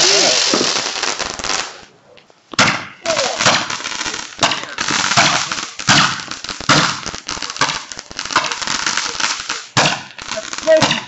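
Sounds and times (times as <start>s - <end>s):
fireworks bangs and crackling: 0.0s - 1.9s, 2.5s - 11.0s.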